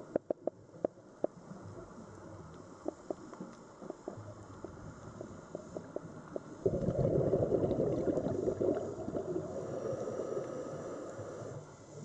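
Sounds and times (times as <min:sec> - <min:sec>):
underwater bubbles gurgling: 0:01.4 - 0:12.0.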